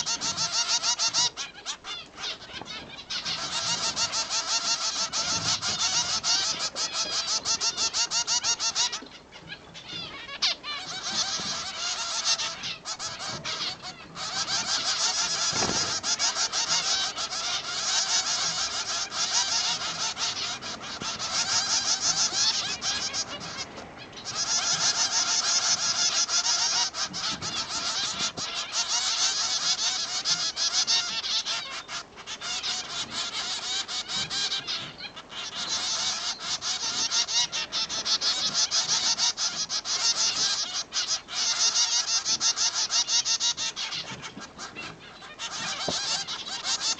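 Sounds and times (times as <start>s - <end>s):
finches chattering: 0.0s - 46.9s.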